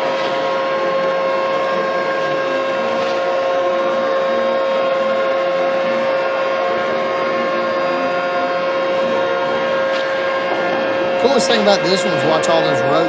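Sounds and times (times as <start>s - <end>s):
long ship horn blast: 0.0s - 13.0s.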